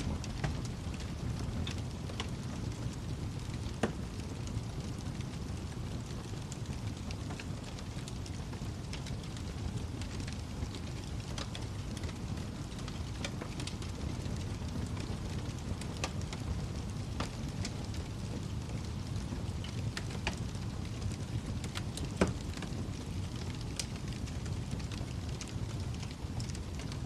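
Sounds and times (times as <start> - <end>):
wood fire crackling: 0.0 - 27.0
sharp pops and snaps of fire: 0.1 - 27.0.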